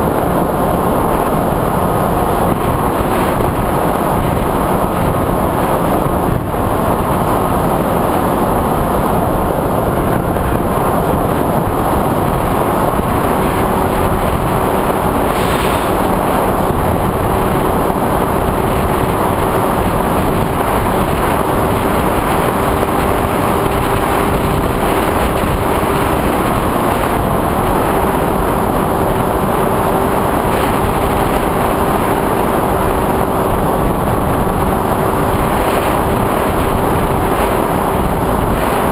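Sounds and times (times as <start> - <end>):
quadcopter motors and propellers: 0.0 - 38.9.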